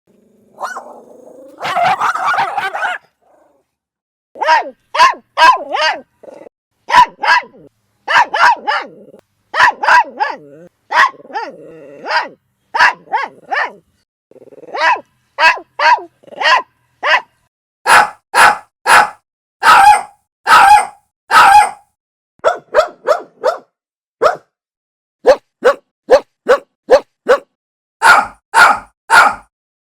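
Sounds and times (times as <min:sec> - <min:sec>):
small dog barking: 0:00.6 - 0:03.5, 0:04.4 - 0:06.1, 0:06.9 - 0:13.8, 0:14.7 - 0:17.3, 0:17.9 - 0:21.8, 0:22.4 - 0:24.5, 0:25.2 - 0:29.5.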